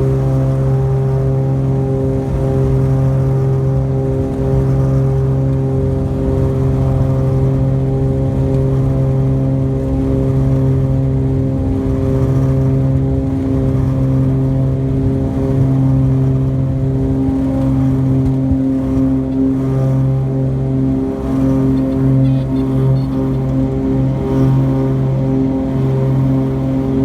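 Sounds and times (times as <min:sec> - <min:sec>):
aircraft piston engines droning: 0:00.0 - 0:27.0.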